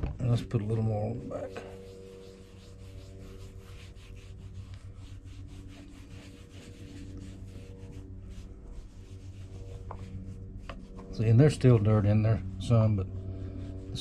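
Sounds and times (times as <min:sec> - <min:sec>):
steady low hum: 0:00.0 - 0:14.0
cloth rubbing leather: 0:00.3 - 0:14.0.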